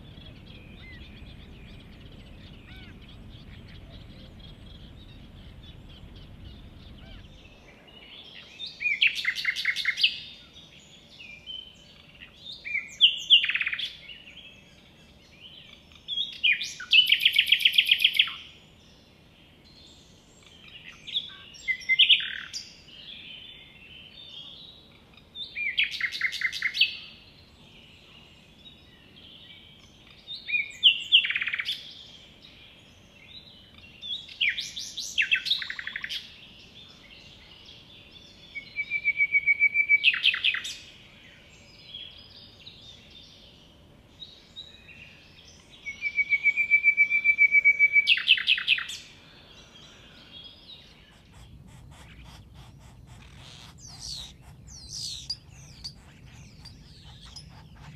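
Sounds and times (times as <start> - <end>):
nightingale singing trills: 0.0 - 57.9.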